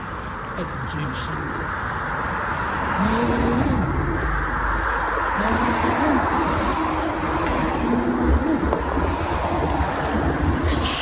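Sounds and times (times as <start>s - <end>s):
bicycle road noise: 0.0s - 11.0s
rushing wind: 0.0s - 11.0s.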